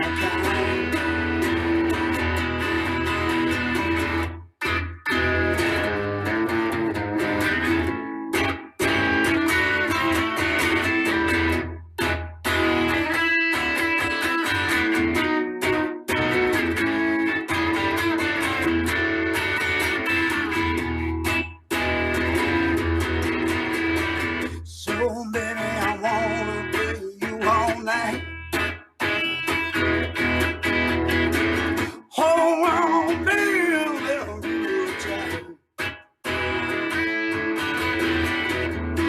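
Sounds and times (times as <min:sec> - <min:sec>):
bass line: 0:00.0 - 0:35.5
blues guitar: 0:00.0 - 0:39.0.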